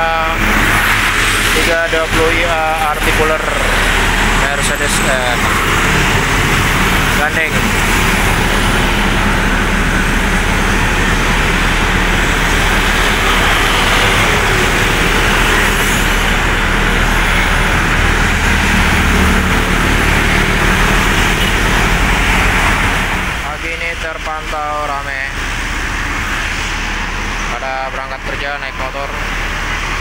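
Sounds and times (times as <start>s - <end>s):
low engine rumble: 0.0s - 30.0s
motorcycles and cars passing: 0.0s - 30.0s.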